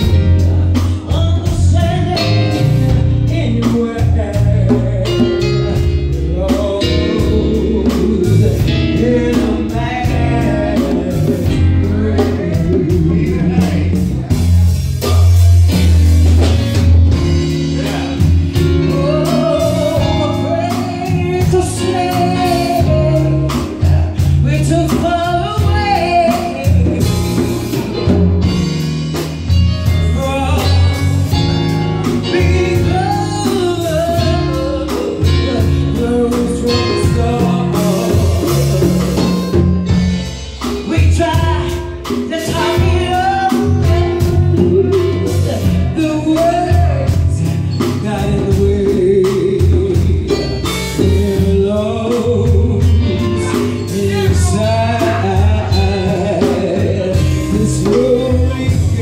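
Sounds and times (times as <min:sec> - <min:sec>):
person singing: 0:00.0 - 0:15.7, 0:17.2 - 0:29.1, 0:29.8 - 0:39.9, 0:40.6 - 0:59.0
congas: 0:00.0 - 0:59.0
live band playing: 0:00.0 - 0:59.0.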